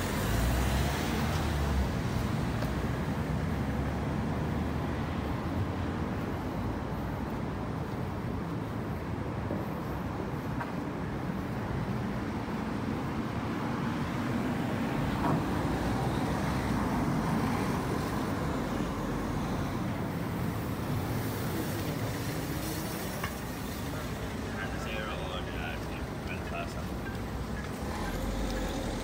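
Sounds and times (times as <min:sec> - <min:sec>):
vehicle traffic rumble: 0:00.0 - 0:29.0.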